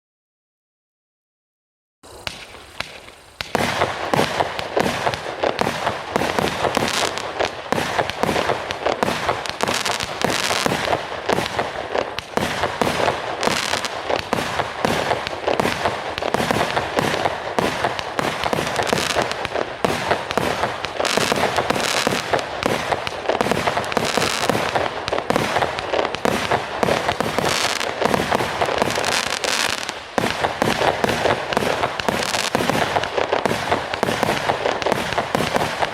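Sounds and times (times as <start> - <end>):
fireworks launch thumps and bursts: 2.1 - 35.9.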